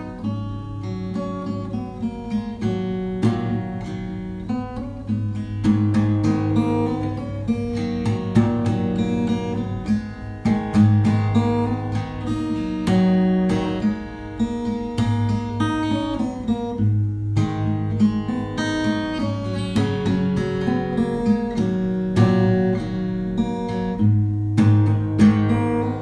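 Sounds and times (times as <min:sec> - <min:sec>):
guitar music: 0:00.0 - 0:26.0.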